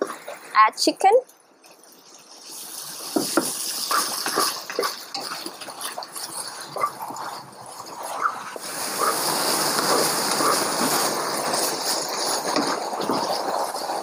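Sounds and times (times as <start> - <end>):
chicken sizzling in hot oil: 1.8 - 14.0.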